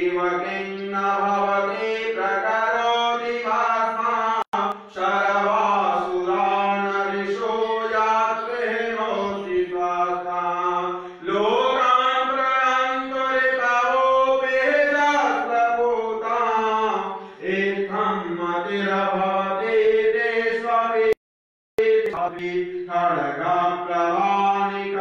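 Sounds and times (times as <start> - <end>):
person chanting a hymn: 0.0 - 21.2, 21.8 - 25.0.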